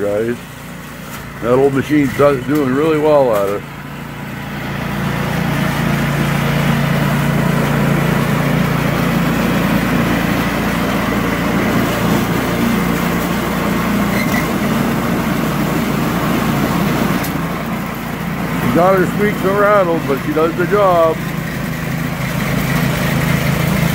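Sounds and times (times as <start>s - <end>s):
snowblower engine running: 0.0s - 23.9s.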